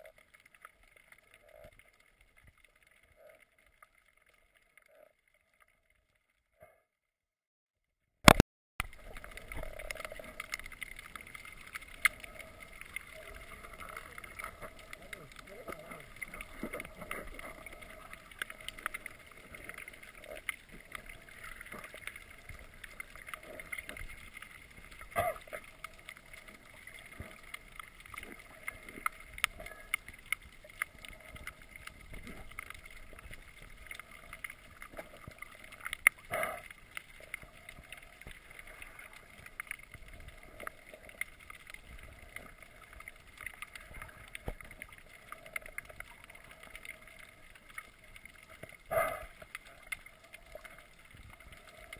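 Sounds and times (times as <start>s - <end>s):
small clicks and crackles: 0.0s - 6.8s, 8.3s - 51.9s.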